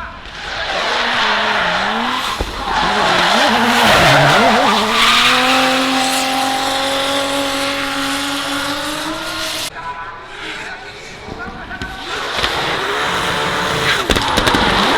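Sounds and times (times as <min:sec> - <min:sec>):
car engine revving: 0:00.0 - 0:09.7, 0:10.3 - 0:14.9.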